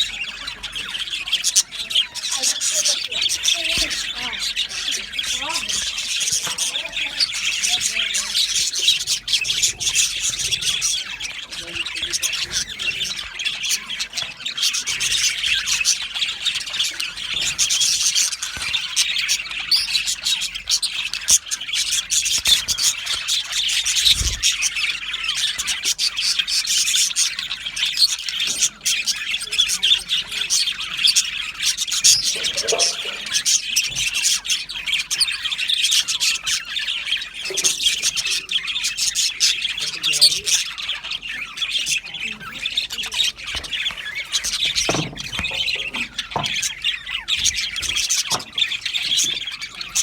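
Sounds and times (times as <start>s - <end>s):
budgerigars chirping and chattering: 0.0s - 50.0s.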